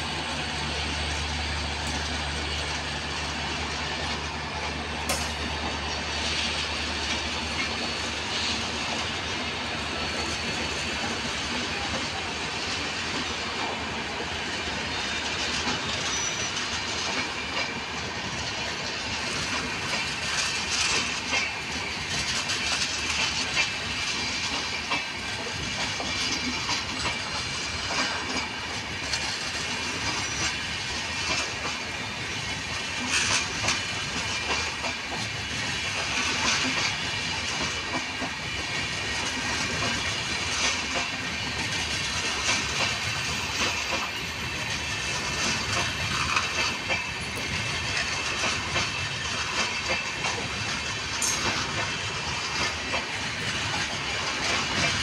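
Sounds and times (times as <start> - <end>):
steel wheels rushing on rail: 0.0 - 55.0.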